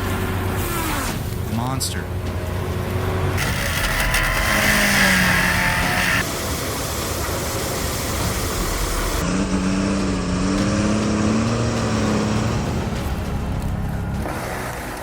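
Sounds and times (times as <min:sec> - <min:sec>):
machine engine running: 0:02.2 - 0:14.9.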